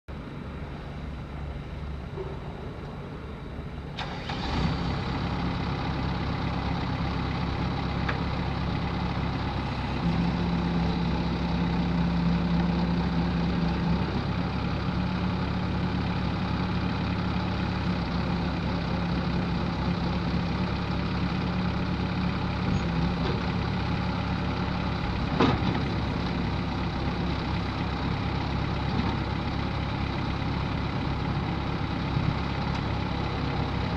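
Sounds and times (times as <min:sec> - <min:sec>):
loader diesel engine running: 0:00.1 - 0:33.9.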